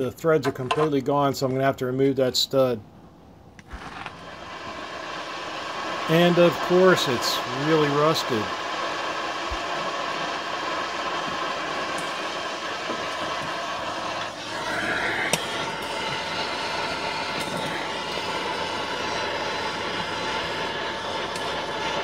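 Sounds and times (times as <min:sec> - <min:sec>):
gas torch hissing: 0:03.6 - 0:22.0.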